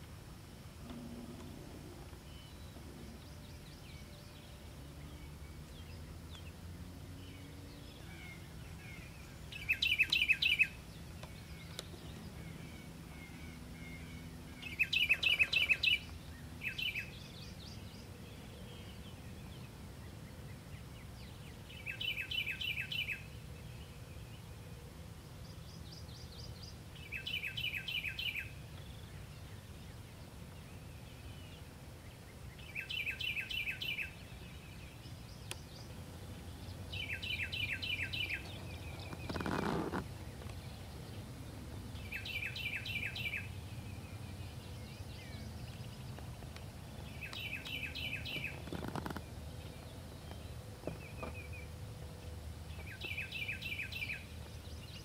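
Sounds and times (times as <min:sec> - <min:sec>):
low steady background rumble: 0:00.0 - 0:55.0
songbird singing: 0:00.0 - 0:55.0.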